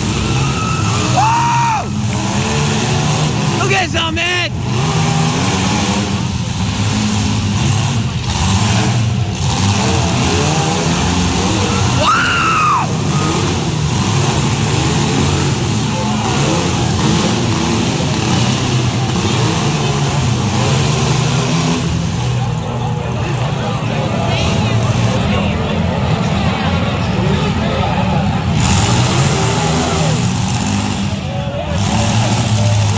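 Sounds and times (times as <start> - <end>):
car engines revving: 0.0 - 32.9.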